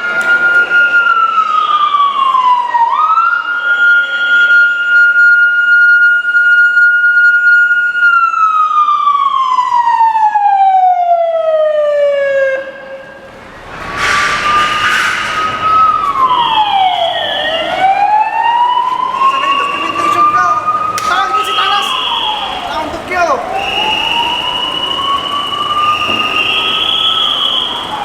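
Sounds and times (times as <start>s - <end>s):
siren wailing: 0.0s - 28.0s.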